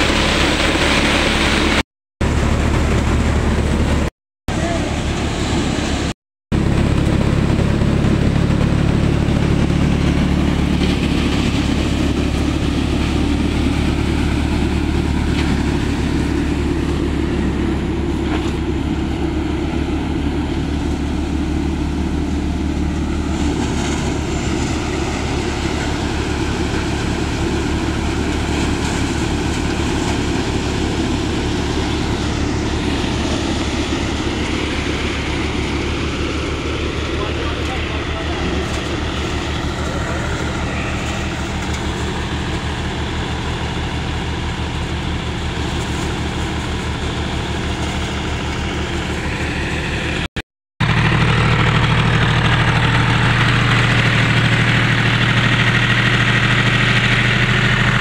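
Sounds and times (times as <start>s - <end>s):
threshing drum whirring: 0.0s - 58.0s
tractor diesel engine running: 0.0s - 58.0s.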